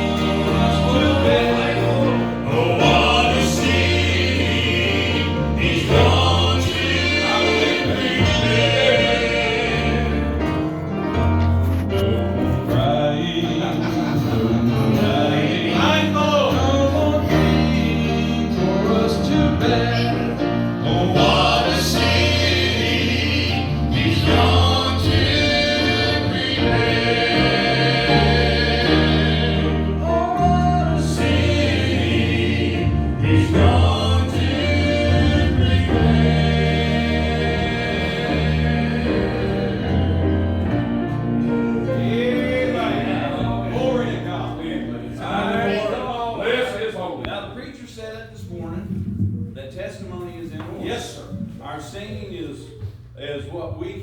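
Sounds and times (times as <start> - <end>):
held bass notes: 0.0 - 46.2
gospel group singing in harmony: 0.0 - 47.4.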